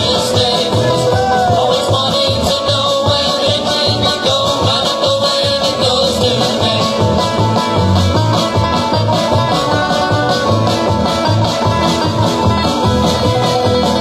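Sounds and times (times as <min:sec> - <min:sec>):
drums keeping a steady beat: 0:00.0 - 0:14.0
guitar: 0:00.0 - 0:14.0
pulsing bass notes: 0:00.0 - 0:14.0.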